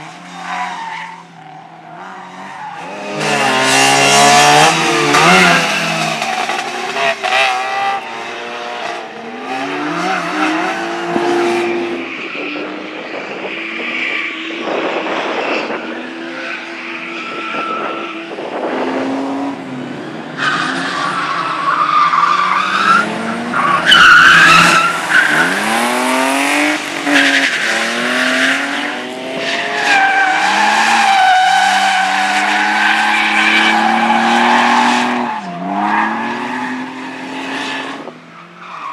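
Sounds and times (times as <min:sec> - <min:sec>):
rally car engines revving: 0:00.0 - 0:38.9
tyres skidding and squealing: 0:00.0 - 0:38.9.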